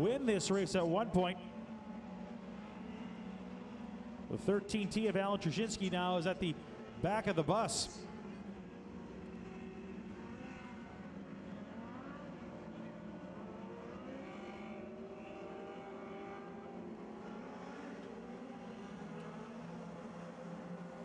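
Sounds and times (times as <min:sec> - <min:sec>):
race car engines running: 0:00.0 - 0:21.0.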